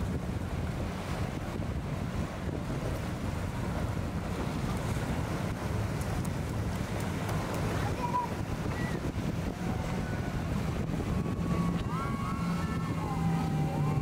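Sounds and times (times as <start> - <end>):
outboard engines droning: 0.0 - 14.0
water rushing: 0.0 - 14.0
wind buffeting microphone: 0.0 - 14.0.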